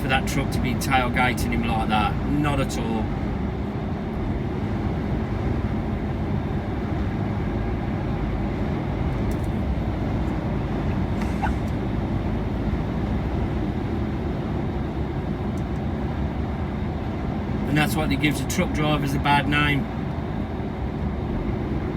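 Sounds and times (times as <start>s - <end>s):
low hum: 0.0s - 21.9s
road noise: 0.0s - 21.9s
truck engine drone: 0.0s - 21.9s.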